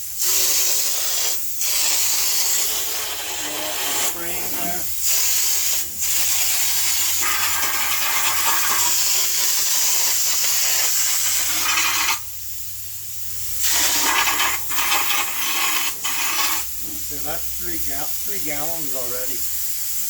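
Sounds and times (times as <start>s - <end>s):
spray gun hissing: 0.0s - 20.0s.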